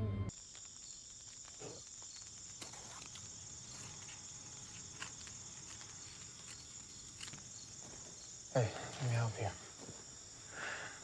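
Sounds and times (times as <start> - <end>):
crickets chirring: 0.3 - 11.0.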